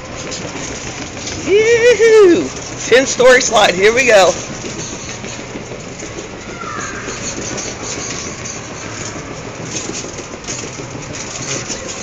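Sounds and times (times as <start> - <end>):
rider sliding down tube slide: 0.0 - 12.0.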